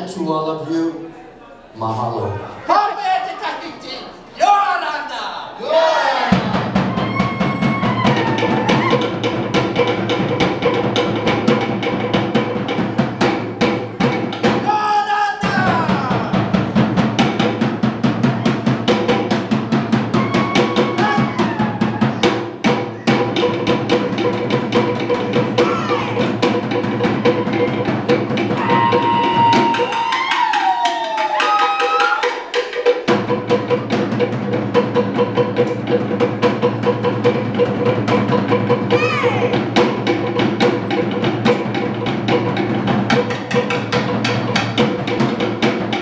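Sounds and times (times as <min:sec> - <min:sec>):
fast slit-log drumming: 0:06.3 - 0:14.8, 0:15.4 - 0:46.0.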